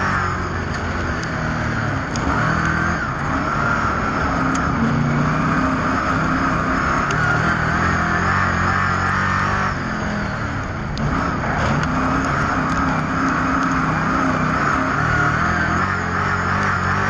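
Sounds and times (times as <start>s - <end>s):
race car engines running hard: 0.0s - 17.0s.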